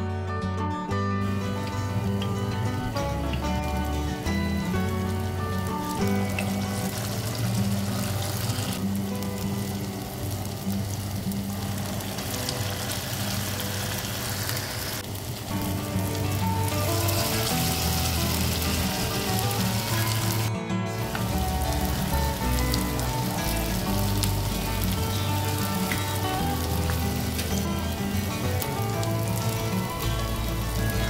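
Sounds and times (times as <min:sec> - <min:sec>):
patties sizzling in frying oil: 0:01.2 - 0:31.0.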